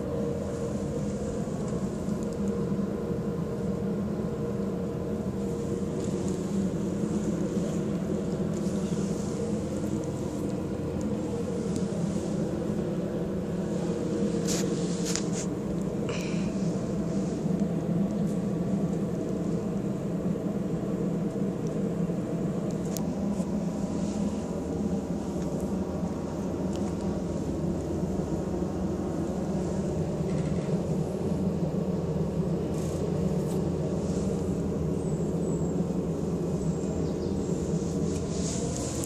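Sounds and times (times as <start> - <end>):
low mechanical rumble and hum: 0.0 - 39.0.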